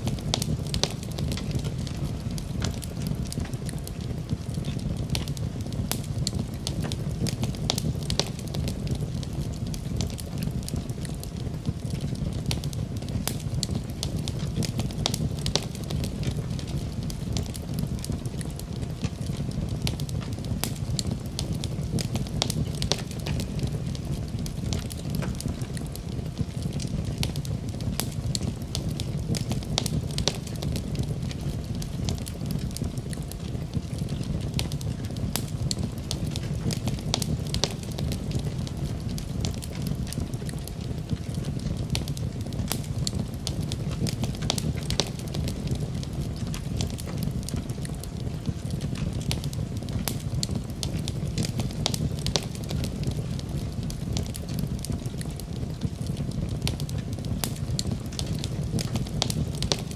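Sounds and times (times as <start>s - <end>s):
low rumble of flame: 0.0s - 59.9s
wood fire crackling and popping: 0.0s - 59.9s.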